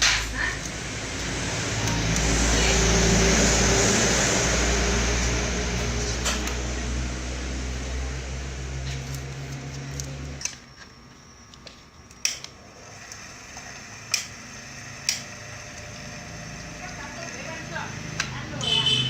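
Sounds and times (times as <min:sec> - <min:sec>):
electric fan humming: 0:00.0 - 0:10.5, 0:12.3 - 0:19.0.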